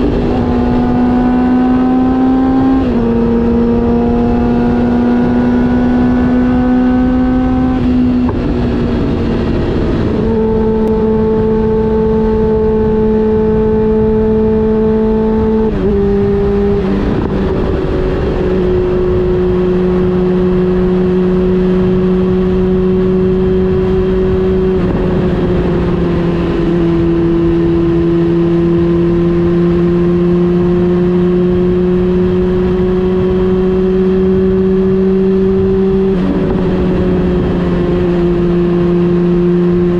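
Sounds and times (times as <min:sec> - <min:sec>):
constant rushing noise: 0:00.0 - 0:39.9
motorcycle engine cruising: 0:00.0 - 0:39.9.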